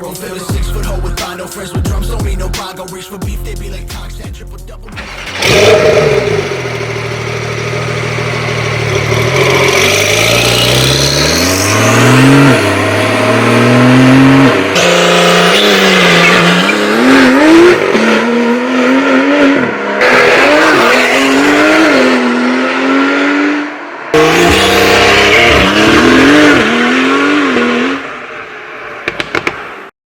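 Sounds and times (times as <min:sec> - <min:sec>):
sports car engine accelerating through gears: 0:04.9 - 0:29.5.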